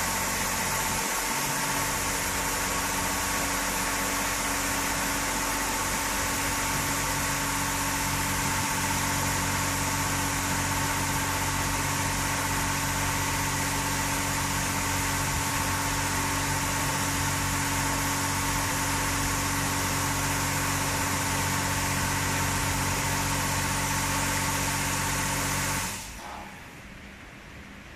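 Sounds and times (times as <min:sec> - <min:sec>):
high-pressure water spraying: 0:00.0 - 0:26.3
car wash machine humming: 0:00.0 - 0:27.9.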